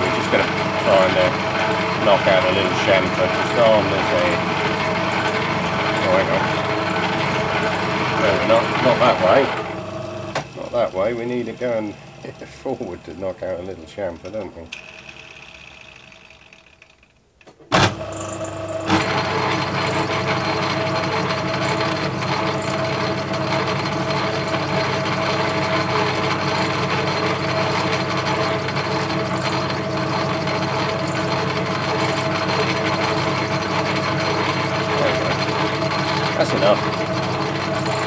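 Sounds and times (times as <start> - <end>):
metal lathe running with whine: 0.0 - 17.1, 17.8 - 38.0.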